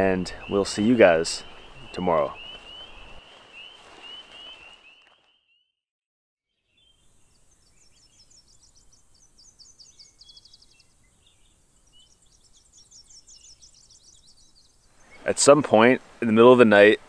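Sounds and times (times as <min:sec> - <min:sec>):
birds trilling and chirping: 0:00.0 - 0:05.6, 0:06.6 - 0:17.0.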